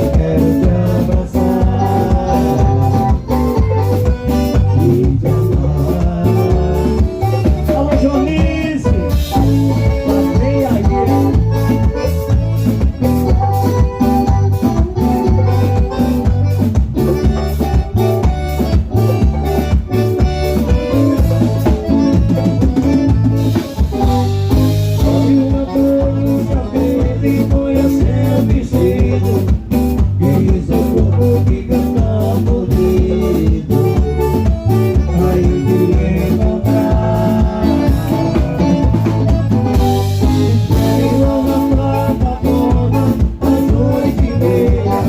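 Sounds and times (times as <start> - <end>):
band music: 0.0 - 45.0
bass line: 0.0 - 45.0
drum kit beat: 0.0 - 45.0
guitar: 0.0 - 45.0.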